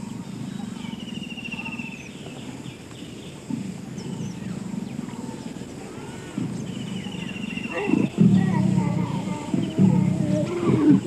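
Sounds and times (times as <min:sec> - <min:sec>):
birds chirping: 0:00.0 - 0:11.0
leopard growling: 0:00.0 - 0:11.0.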